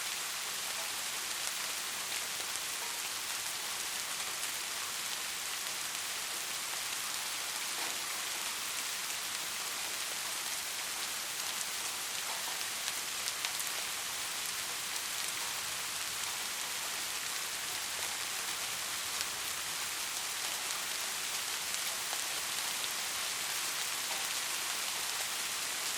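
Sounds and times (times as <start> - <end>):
rain falling: 0.0 - 25.9
raindrops pattering: 0.1 - 25.9.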